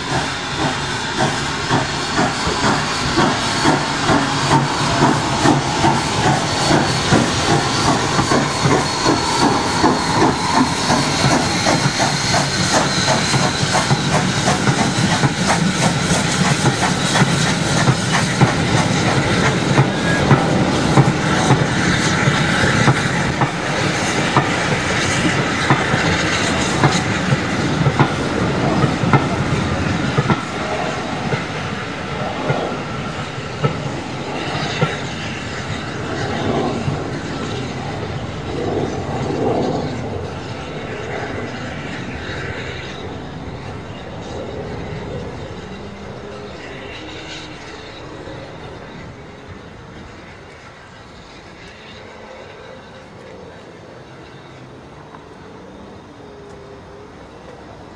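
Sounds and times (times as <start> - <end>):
steam hissing: 0.0 - 56.1
rhythmic locomotive exhaust beats: 0.0 - 57.9.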